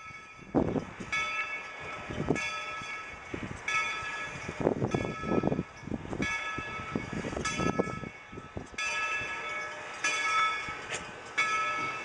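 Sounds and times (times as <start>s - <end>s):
locomotive bell ringing: 0.0s - 12.0s.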